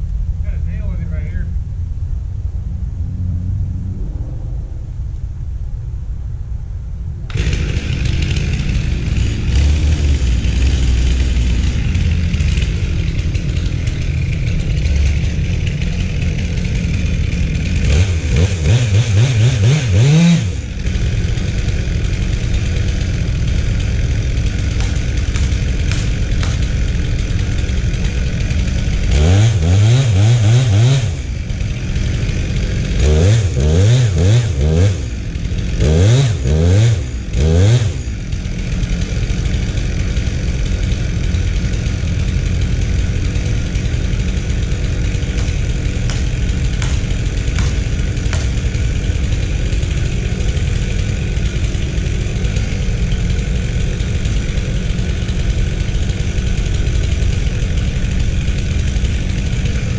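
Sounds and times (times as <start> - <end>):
chainsaw cutting: 7.3 - 59.9.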